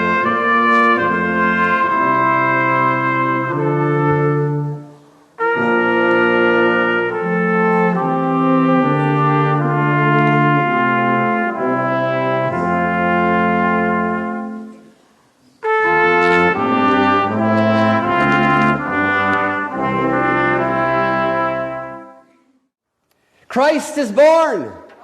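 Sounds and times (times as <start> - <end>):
brass ensemble playing chords: 0.0 - 15.0, 15.6 - 22.5.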